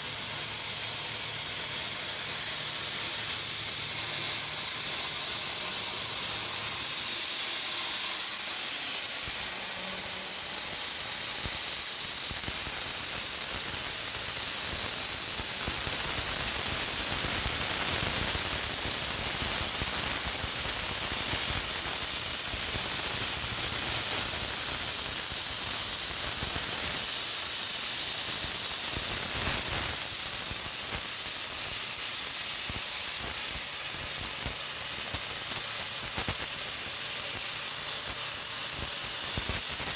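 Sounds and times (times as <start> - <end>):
plasma torch hissing: 1.8 - 39.9.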